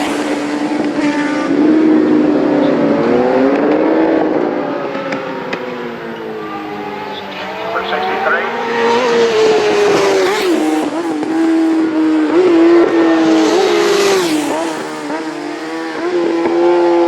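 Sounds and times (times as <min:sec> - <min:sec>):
motorcycle engines revving through gears: 0:00.0 - 0:17.0.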